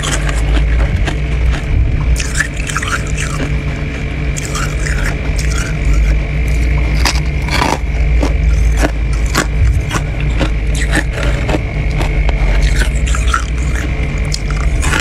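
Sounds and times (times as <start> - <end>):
frost scraping and crunching: 0.0 - 15.0
steady low hum: 0.0 - 15.0.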